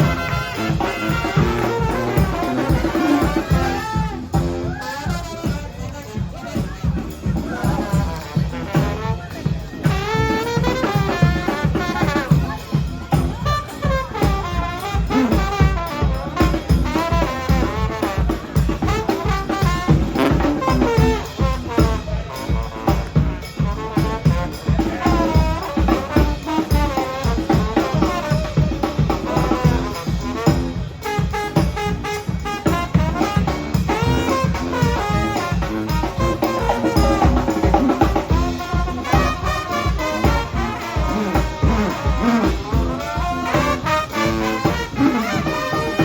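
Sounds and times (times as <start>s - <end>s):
horn lines: 0.0s - 46.0s
steady drum beat: 0.0s - 46.0s.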